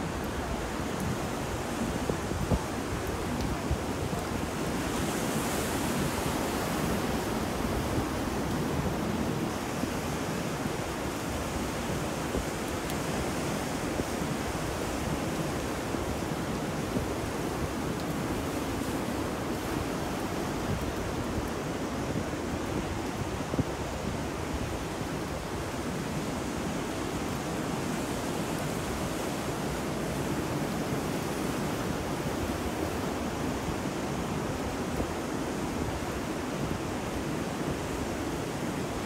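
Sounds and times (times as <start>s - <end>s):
ocean surf: 0.0s - 39.0s
wind: 0.0s - 39.0s.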